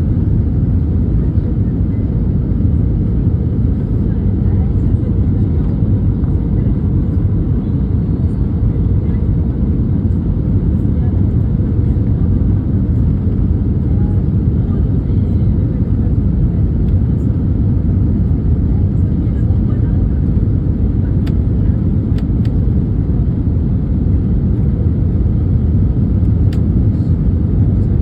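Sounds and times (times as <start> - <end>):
jet engine cabin rumble: 0.0 - 28.0.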